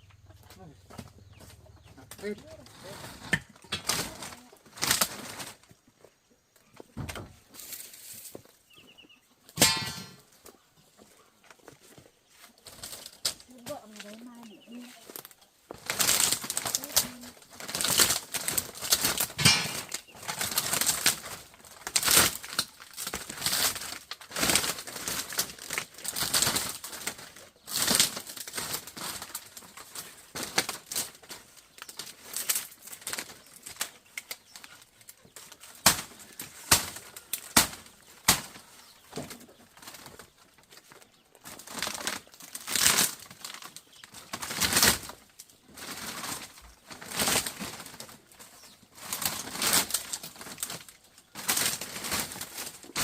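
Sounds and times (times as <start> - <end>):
wood rustling cracking and knocking: 3.1 - 53.0.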